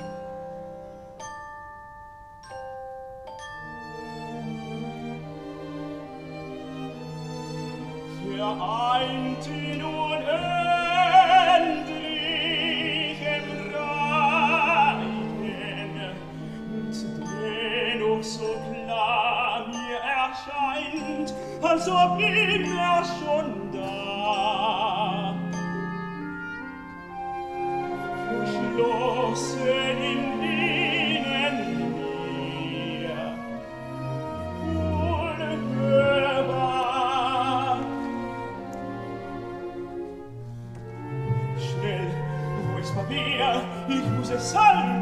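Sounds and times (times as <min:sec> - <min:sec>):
symphony orchestra: 0:00.0 - 0:45.0
operatic tenor singing: 0:04.4 - 0:40.2, 0:40.8 - 0:45.0.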